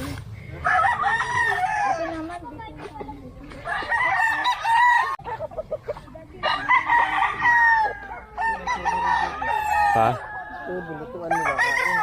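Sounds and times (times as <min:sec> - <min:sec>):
roosters crowing: 0:00.5 - 0:02.4, 0:03.6 - 0:12.0.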